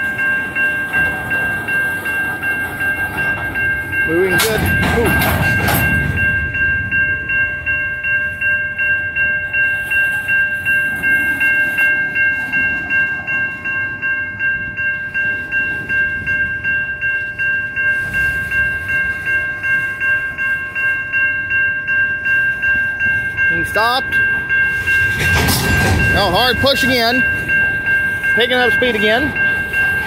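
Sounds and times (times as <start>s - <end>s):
crossing bell ringing: 0.0s - 30.0s
rumble of rolling freight cars: 0.0s - 30.0s.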